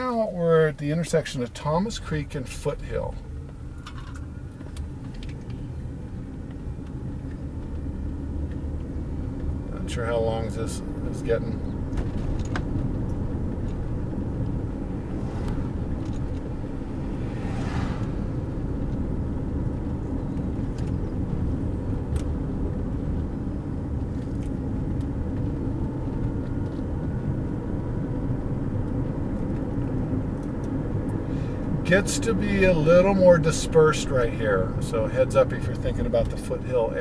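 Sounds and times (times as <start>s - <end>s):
car road noise from cabin: 0.0s - 37.0s.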